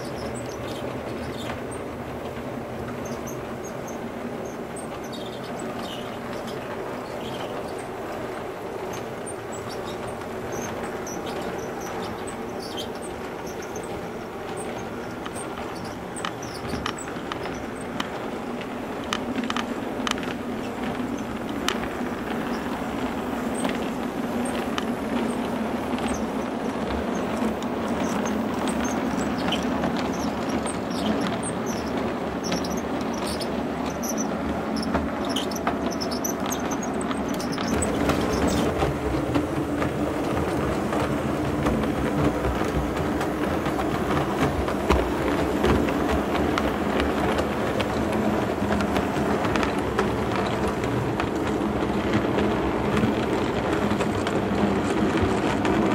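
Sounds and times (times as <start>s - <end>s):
high wheel squeaks: 0.0s - 55.9s
model train motor hum: 0.0s - 55.9s
wheels clicking over rails: 0.0s - 55.9s.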